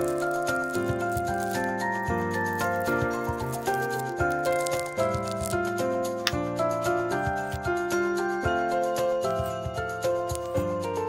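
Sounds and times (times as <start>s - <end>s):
light melody over steady beat: 0.0s - 11.0s.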